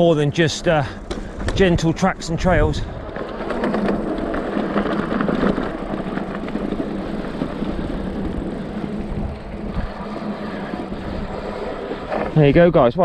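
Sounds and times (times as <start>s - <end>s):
bike rattling: 0.0s - 13.0s
bike tyres rumbling on dirt: 0.0s - 13.0s.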